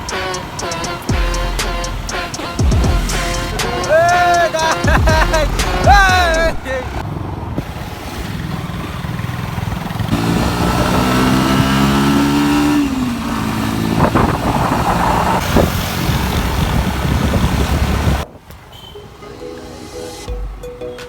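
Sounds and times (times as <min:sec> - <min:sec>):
motorbike engine rumbling: 0:00.0 - 0:18.3.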